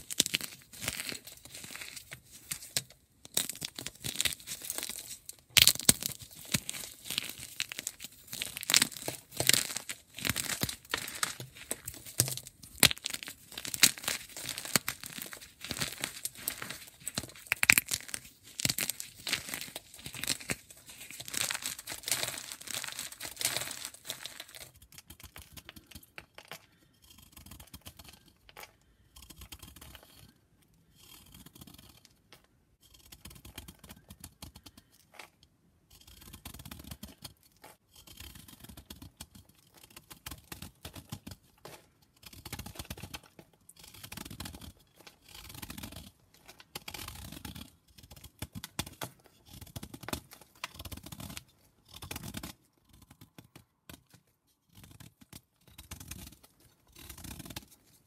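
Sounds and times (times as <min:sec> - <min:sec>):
chalk crumbling and scraping: 0:00.0 - 0:32.5, 0:33.1 - 0:58.0.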